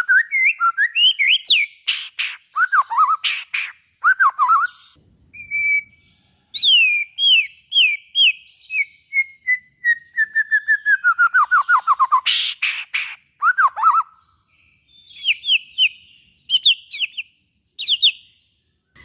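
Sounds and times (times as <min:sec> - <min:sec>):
harsh bird calls: 0:00.0 - 0:19.0
songbird whistling song: 0:00.0 - 0:19.0.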